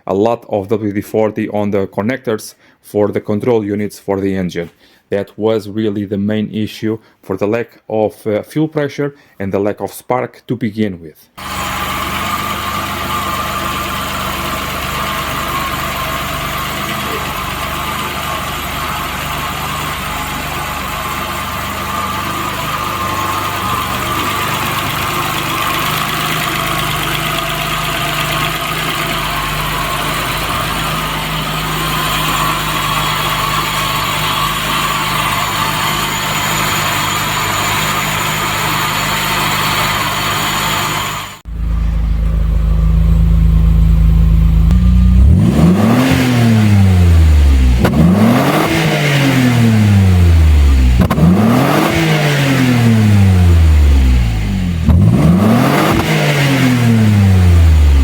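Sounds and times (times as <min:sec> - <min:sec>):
car engine idling: 0:11.4 - 0:58.0.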